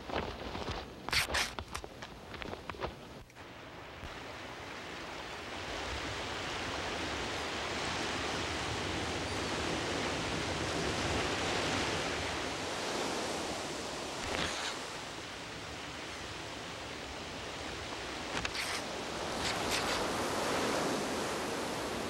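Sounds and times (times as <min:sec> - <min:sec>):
surf washing over rocks: 0:03.9 - 0:22.0.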